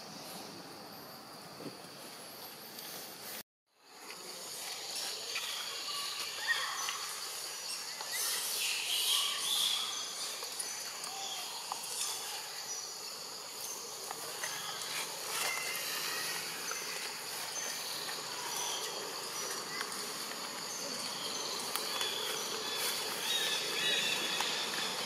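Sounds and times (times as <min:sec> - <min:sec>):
high insect drone: 0:03.8 - 0:25.0.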